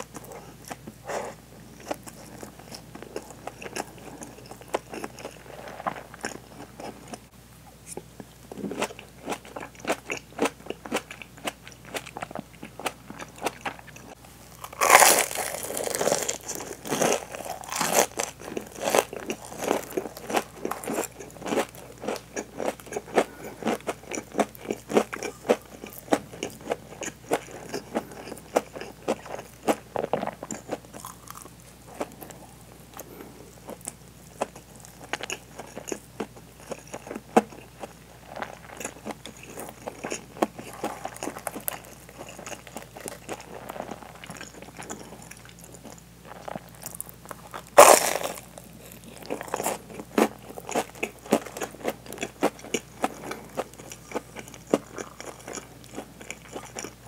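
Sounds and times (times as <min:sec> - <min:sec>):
person chewing crunchy fried food: 0:00.0 - 0:07.3, 0:07.9 - 0:57.0.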